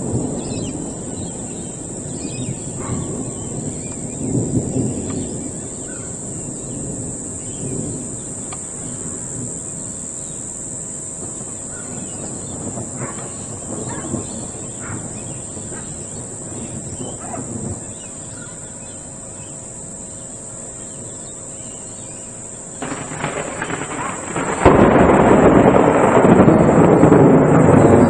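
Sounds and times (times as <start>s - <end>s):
thunder clap rumbling: 0.0s - 20.1s, 22.4s - 28.0s
lightning crackle: 0.0s - 28.0s.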